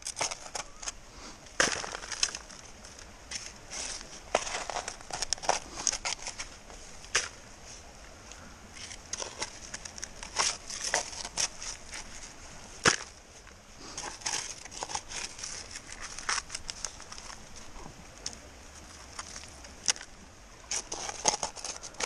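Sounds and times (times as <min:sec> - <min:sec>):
rocks and gravel scraping: 0:00.0 - 0:22.0.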